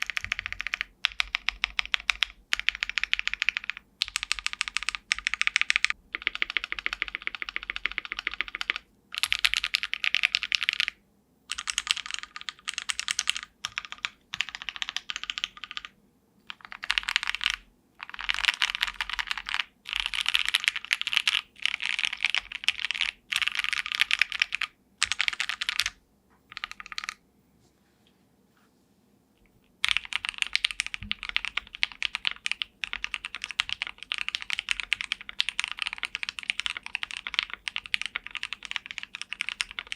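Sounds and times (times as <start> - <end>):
mechanical keyboard typing: 0.0 - 15.9, 16.5 - 27.2, 29.7 - 39.9.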